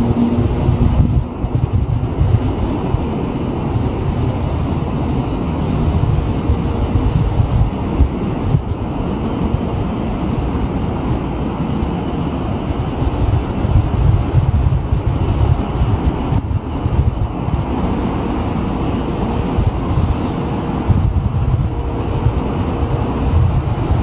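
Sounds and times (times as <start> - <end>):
train low rumble: 0.0 - 24.0.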